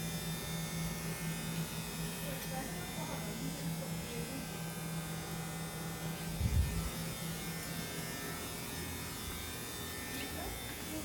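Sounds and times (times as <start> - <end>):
electric motor buzzing hum: 0.0 - 11.0.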